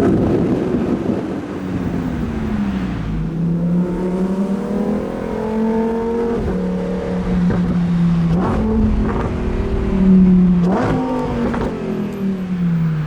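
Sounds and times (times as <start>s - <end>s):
sports car engine shifting gears: 0.1s - 13.0s.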